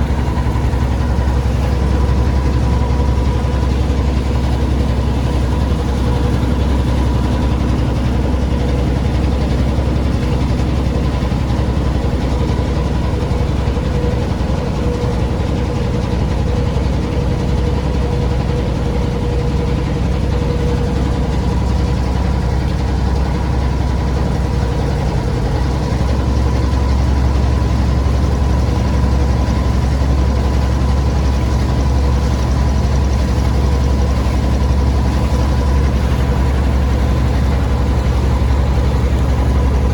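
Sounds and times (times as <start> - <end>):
engine droning with whine: 0.0 - 39.9.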